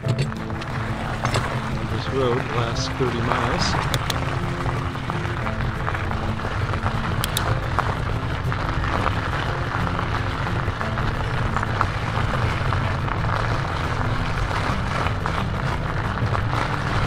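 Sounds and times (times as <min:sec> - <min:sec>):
slow background music: 0:00.0 - 0:17.0
wind and riding rumble: 0:00.0 - 0:17.0.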